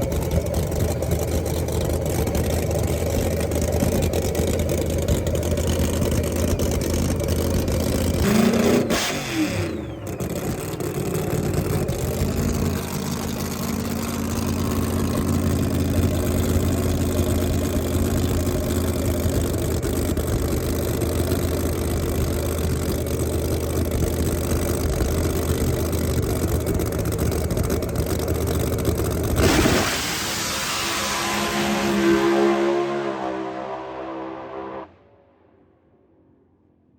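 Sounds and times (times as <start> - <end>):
race car engine running: 0.0 - 34.8.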